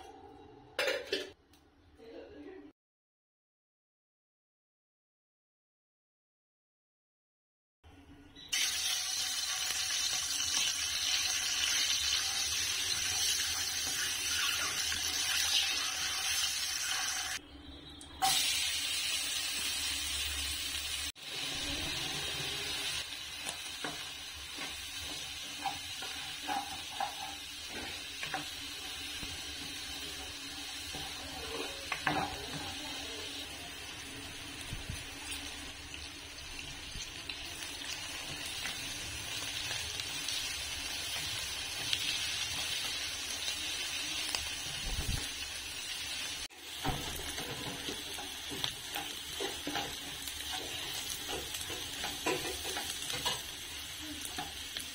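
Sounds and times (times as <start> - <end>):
eggs sizzling in hot oil: 8.5 - 17.4, 18.2 - 54.9
onions frying: 8.5 - 17.4, 18.2 - 54.9.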